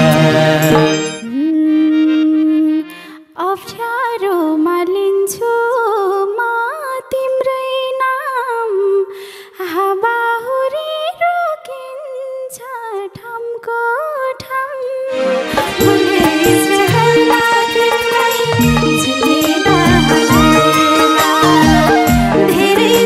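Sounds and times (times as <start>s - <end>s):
woman singing wordless solo: 0.0s - 23.0s.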